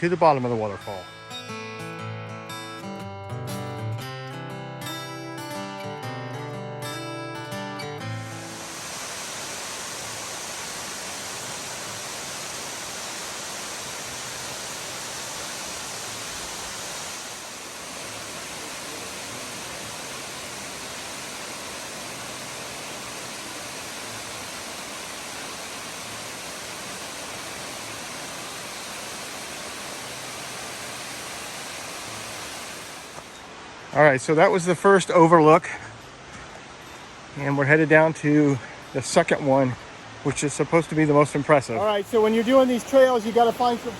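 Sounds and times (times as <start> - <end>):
waterfall roaring: 6.4 - 43.9.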